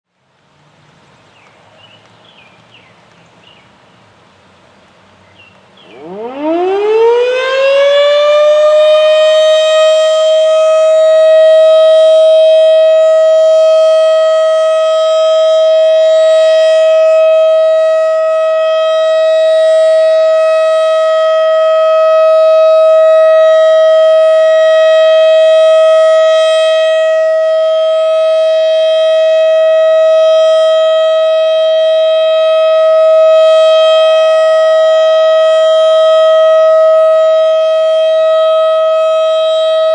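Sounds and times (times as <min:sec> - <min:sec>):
civil defense siren rising tone: 0:05.8 - 0:39.9.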